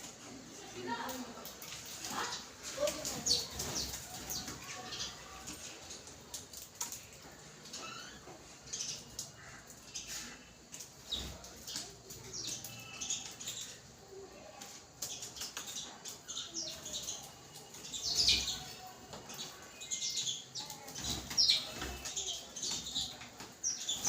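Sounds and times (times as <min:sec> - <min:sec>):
sparrows chirping: 0:00.2 - 0:24.0.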